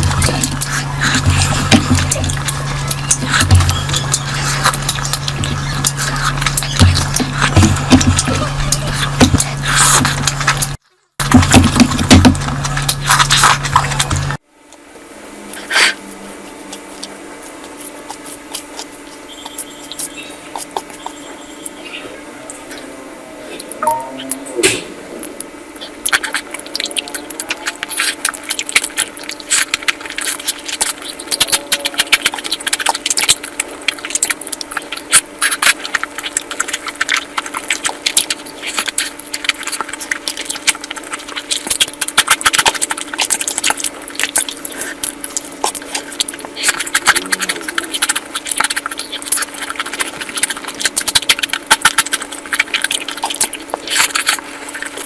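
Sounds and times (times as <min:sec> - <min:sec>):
wet chewing and mouth clicks: 0:00.0 - 0:14.4, 0:15.5 - 0:23.0, 0:23.6 - 0:55.0
steady low hum: 0:00.0 - 0:55.0.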